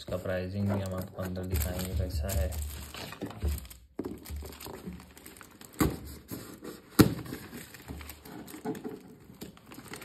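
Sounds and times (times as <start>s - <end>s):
plastic packaging rustling: 0.0s - 10.0s.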